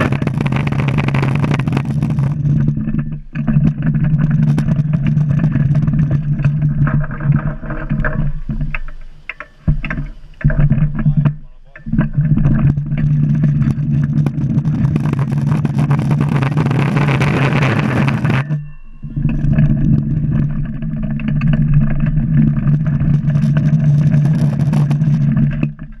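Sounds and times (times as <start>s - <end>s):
wheels rumbling on asphalt: 0.0s - 26.0s.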